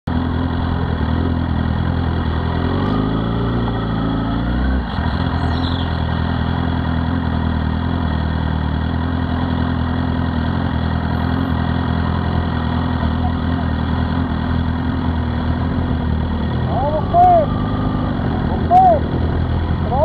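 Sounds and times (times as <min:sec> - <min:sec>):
motorcycle engine revving: 0:00.1 - 0:20.0.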